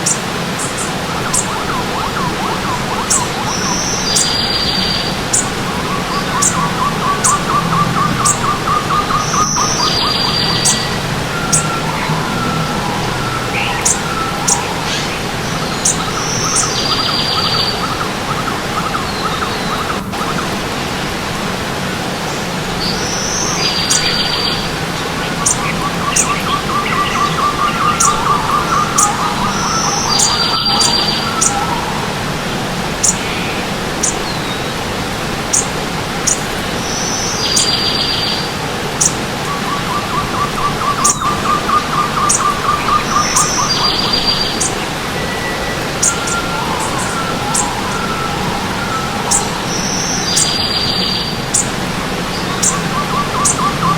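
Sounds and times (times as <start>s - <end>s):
low rapid bird trill: 0.0s - 21.0s, 22.8s - 53.9s
forest birds singing: 0.0s - 53.9s
stream water rushing: 0.0s - 53.9s.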